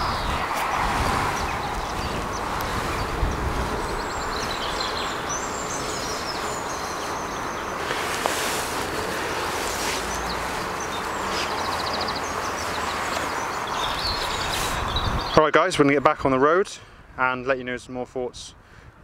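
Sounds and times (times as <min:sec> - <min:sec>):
steady background noise: 0:00.0 - 0:18.4
songbirds chirping and trilling: 0:00.0 - 0:19.0.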